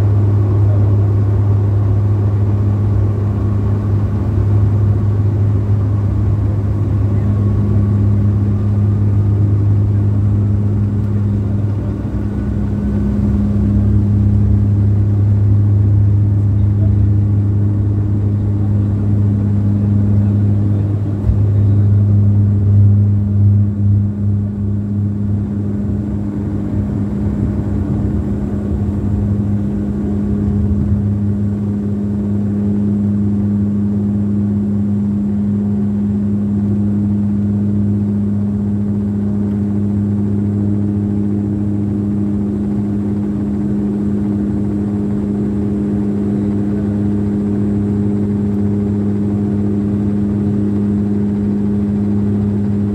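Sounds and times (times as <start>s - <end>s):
turboprop engine drone: 0.0s - 52.9s.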